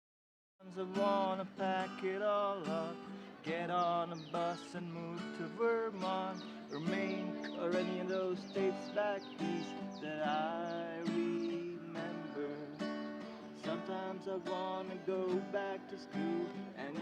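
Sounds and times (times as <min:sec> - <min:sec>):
acoustic guitar plucked: 0:00.6 - 0:17.0.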